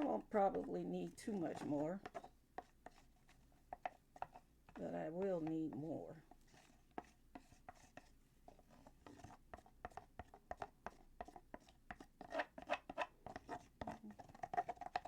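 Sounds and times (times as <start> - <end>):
tool scraping plaster container: 0.0 - 15.0.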